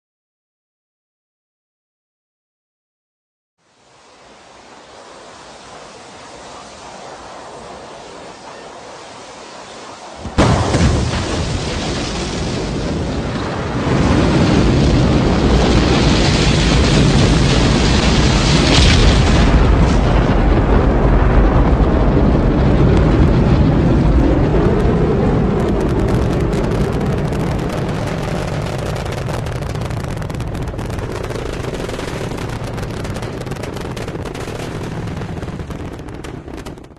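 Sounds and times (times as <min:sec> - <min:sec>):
rocket engine rumble: 0:03.9 - 0:36.9.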